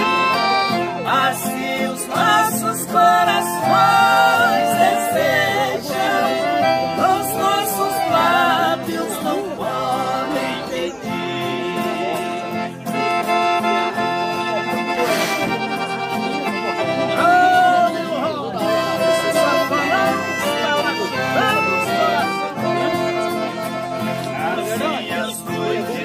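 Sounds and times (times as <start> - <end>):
accordions playing melody: 0.0 - 26.0
strummed acoustic guitars: 0.0 - 26.0.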